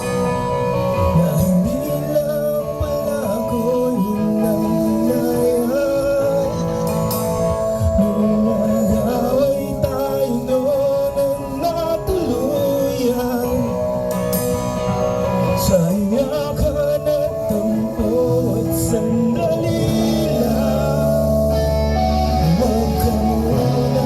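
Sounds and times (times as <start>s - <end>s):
live band playing: 0.0s - 24.0s
person singing: 0.0s - 24.0s.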